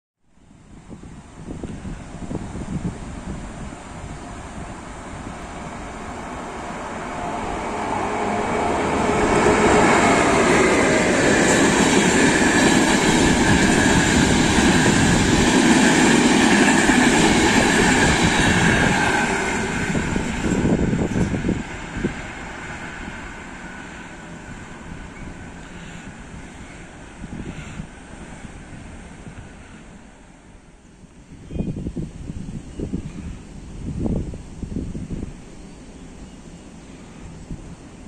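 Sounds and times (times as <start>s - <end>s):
passenger train passing: 0.4s - 38.0s.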